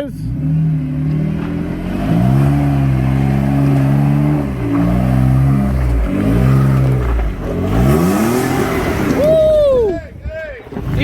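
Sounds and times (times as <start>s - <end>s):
engine revving: 0.2s - 9.5s.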